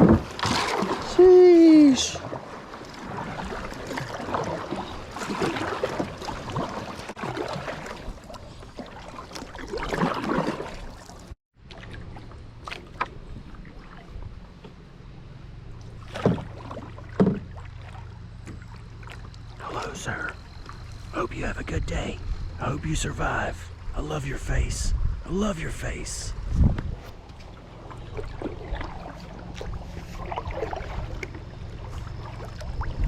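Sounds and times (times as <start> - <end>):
paddle strokes splashing water: 0.0 - 21.6, 26.9 - 33.0.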